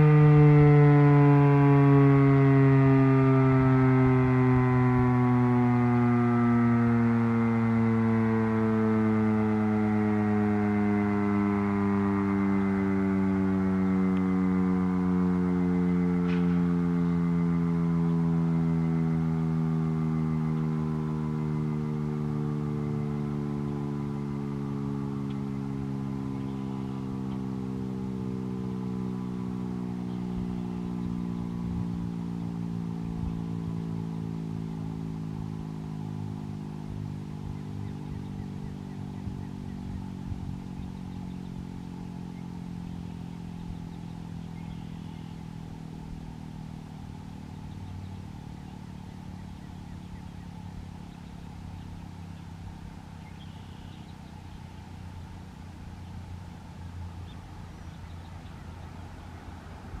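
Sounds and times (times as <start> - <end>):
warning siren winding down: 0.0 - 60.0.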